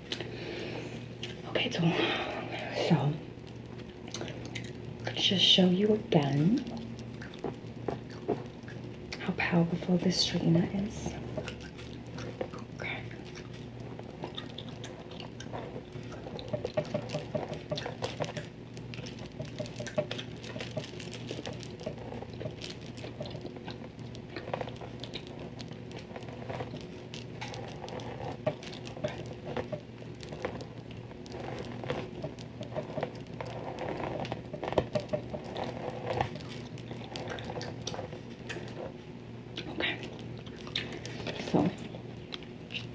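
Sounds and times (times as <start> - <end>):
bangle bracelets jangling: 1.4 - 38.9, 39.6 - 42.9.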